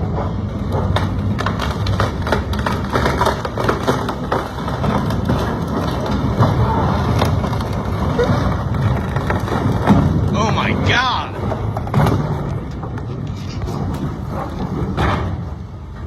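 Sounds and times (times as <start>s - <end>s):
boat hull cracking and crunching: 0.2s - 15.7s.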